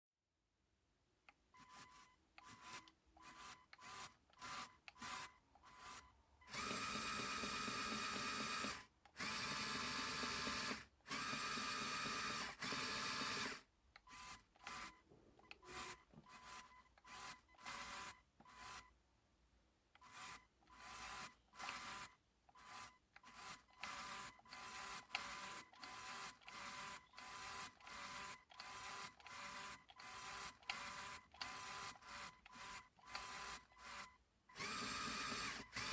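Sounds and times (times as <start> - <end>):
plastic gears whirring: 1.6 - 18.9, 19.9 - 35.9.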